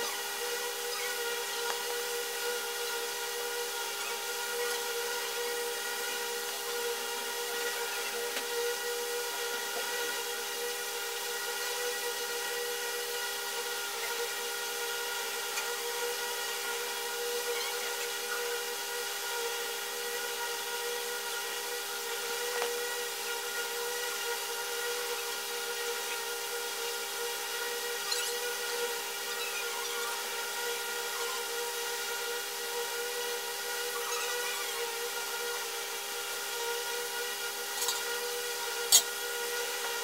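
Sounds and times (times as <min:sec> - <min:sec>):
droning hum: 0:00.0 - 0:40.0.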